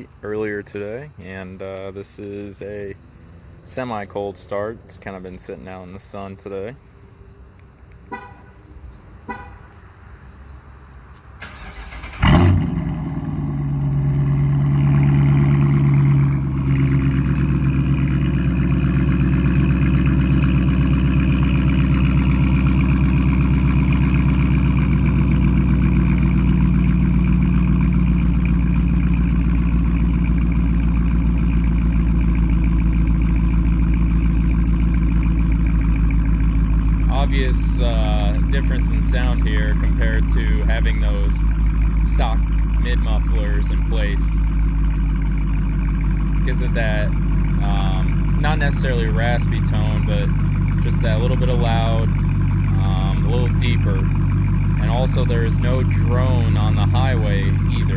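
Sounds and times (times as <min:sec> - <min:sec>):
deep engine idle: 0:00.0 - 0:10.4, 0:11.4 - 0:57.9
car engine starting: 0:00.1 - 0:57.9.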